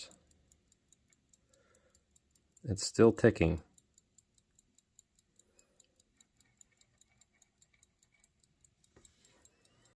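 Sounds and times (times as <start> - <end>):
pocket watch ticking: 0.0 - 10.0.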